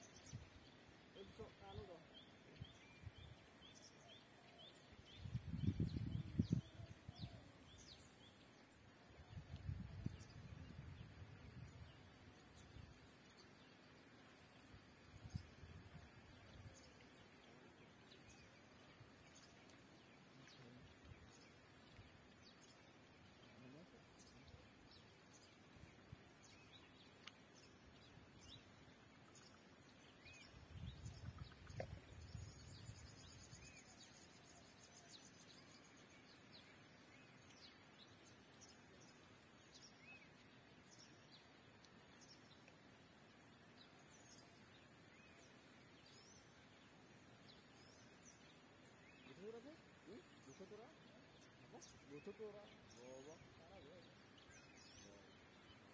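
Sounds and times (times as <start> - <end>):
faint bird chirps: 0.0 - 55.9.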